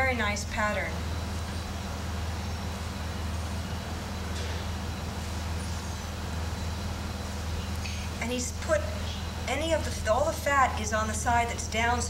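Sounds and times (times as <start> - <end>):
machinery hum and hiss: 0.0 - 12.0.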